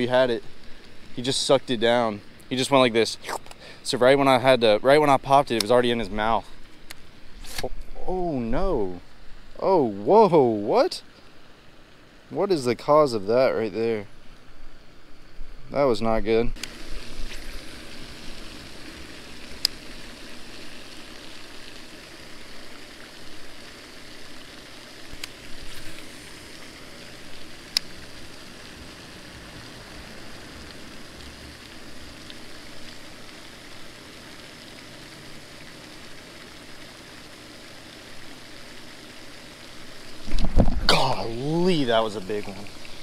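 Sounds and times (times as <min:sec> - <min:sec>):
outdoor background hiss: 0:00.0 - 0:43.0.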